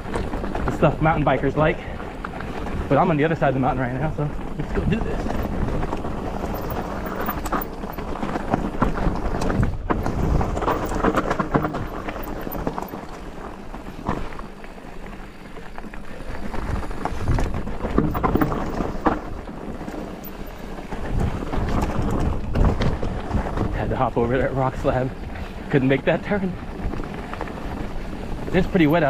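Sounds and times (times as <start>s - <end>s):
bike knocks and rattles: 0.0s - 25.4s
bike tyres rumbling over rock: 0.0s - 29.0s
wind buffeting microphone: 0.0s - 29.0s.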